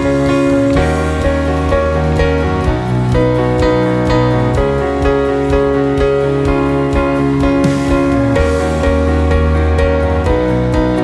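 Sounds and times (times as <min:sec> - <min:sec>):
keyboard chords: 0:00.0 - 0:11.0
light steady beat: 0:00.0 - 0:11.0
strong bass line: 0:00.0 - 0:11.0.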